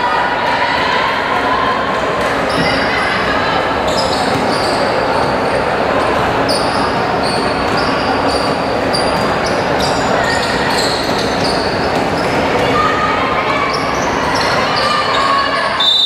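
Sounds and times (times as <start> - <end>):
din of spectators: 0.0 - 16.0
sneaker squeaks: 2.4 - 16.0.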